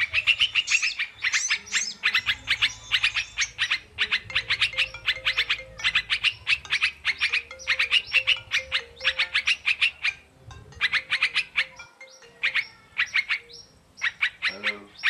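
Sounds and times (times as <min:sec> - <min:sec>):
bird chirping high notes: 0:00.0 - 0:15.0.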